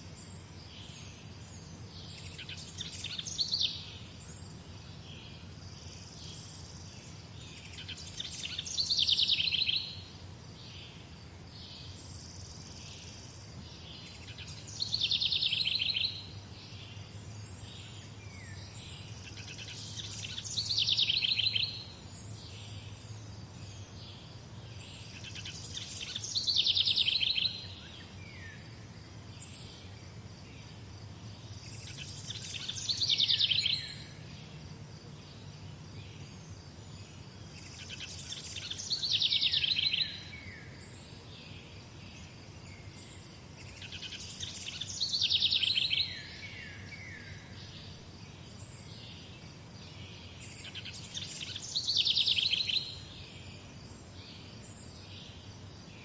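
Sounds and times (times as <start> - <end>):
songbird singing trill: 0.0 - 56.0.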